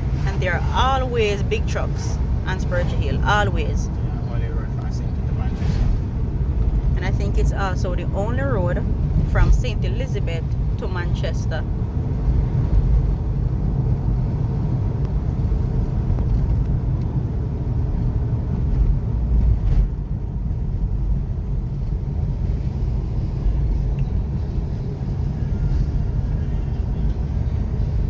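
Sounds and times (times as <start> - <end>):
car engine rumble: 0.0 - 28.0
road noise: 0.0 - 28.0.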